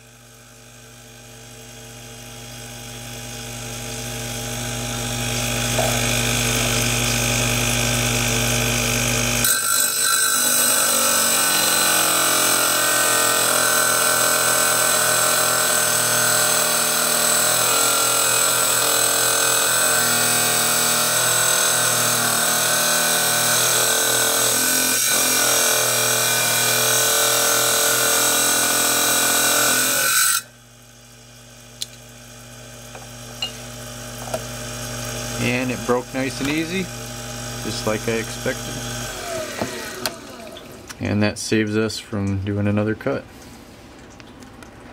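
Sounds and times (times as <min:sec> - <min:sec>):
saw blade grinding whine: 0:00.0 - 0:30.6, 0:32.4 - 0:40.9.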